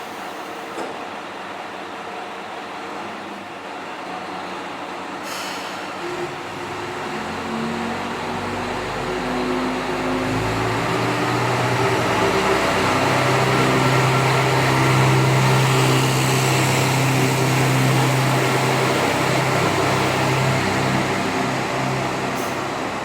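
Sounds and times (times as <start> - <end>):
train diesel engine under throttle: 0.0 - 23.0.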